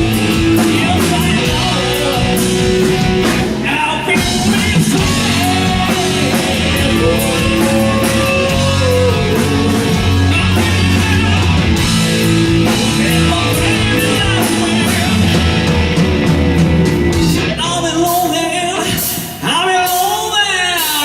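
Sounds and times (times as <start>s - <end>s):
person singing: 0.0s - 16.0s, 17.1s - 21.0s
live hard rock band: 0.0s - 21.0s.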